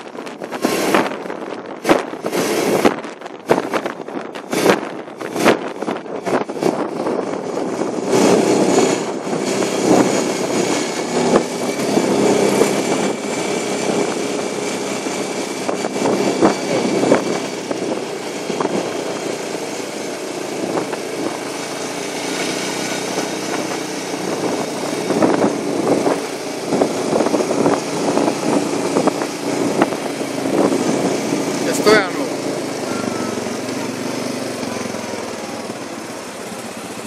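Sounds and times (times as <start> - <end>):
quad bike engine running: 0.0 - 37.0
road and wind noise: 0.0 - 37.0.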